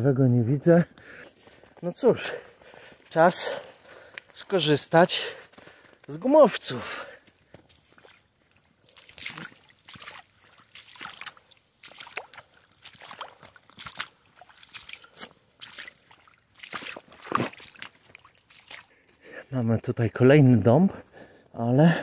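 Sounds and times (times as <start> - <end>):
boots splashing through water: 1.5 - 19.2.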